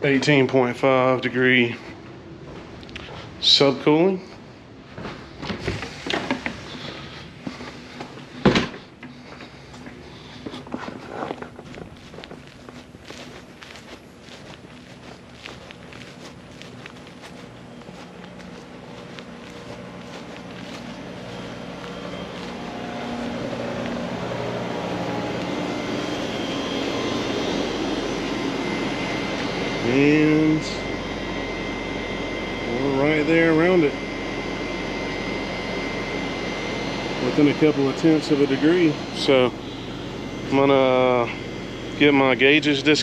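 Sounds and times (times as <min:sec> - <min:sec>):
compressor humming: 0:00.0 - 0:43.0
condenser fan rushing: 0:00.0 - 0:43.0
footsteps: 0:01.0 - 0:43.0.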